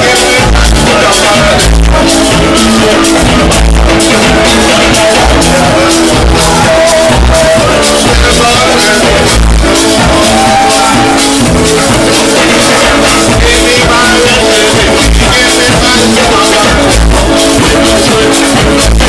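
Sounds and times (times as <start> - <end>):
electric bass: 0.0 - 19.0
electric guitar: 0.0 - 19.0.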